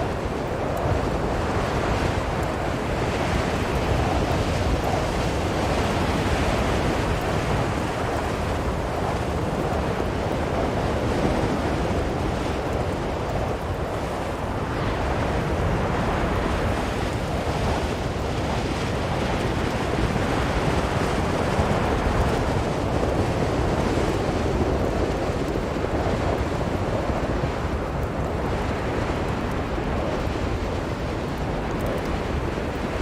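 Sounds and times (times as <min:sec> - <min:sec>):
blizzard wind blowing: 0:00.0 - 0:33.0.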